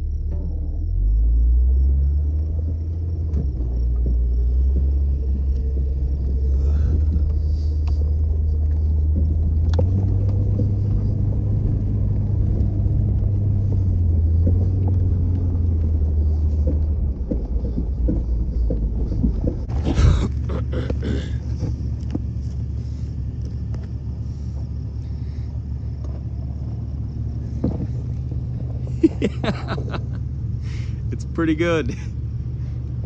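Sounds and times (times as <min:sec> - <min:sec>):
engine rumbling low: 0:00.0 - 0:33.0.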